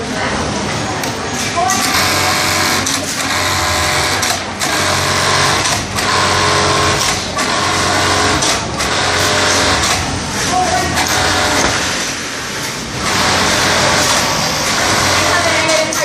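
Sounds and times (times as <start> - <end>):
sewing machine stitching: 1.8 - 16.0.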